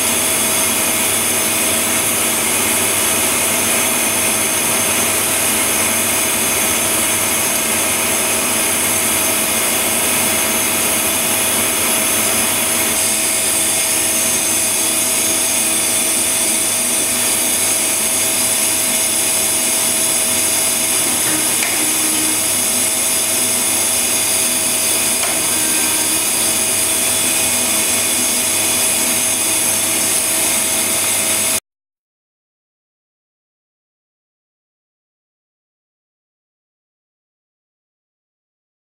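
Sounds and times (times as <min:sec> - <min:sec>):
lathe whirring hum with hiss: 0:00.0 - 0:31.6.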